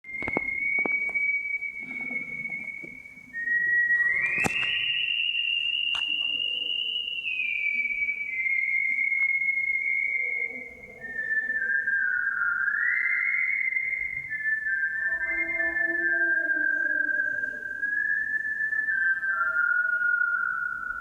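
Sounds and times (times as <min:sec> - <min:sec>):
person whistling a tune: 0:00.0 - 0:21.0.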